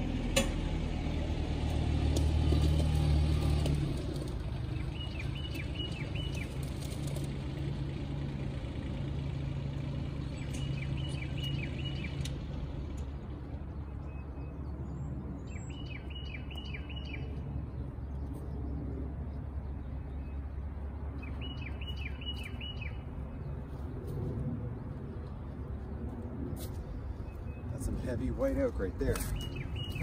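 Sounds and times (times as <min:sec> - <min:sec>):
songbird chirping: 0:00.0 - 0:30.0
vehicle engine idling: 0:00.0 - 0:30.0.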